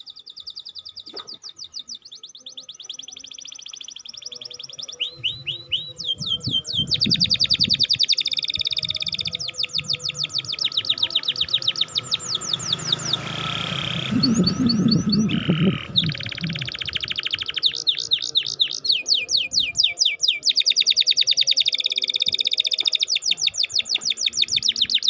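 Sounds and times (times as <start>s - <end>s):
canary singing trills: 0.0s - 25.0s.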